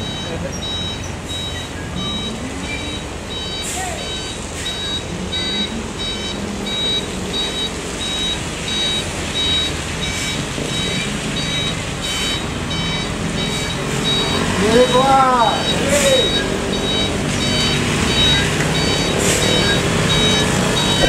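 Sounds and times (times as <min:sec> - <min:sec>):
heavy vehicle engine running: 0:00.0 - 0:21.0
high warning beeps: 0:00.0 - 0:21.0.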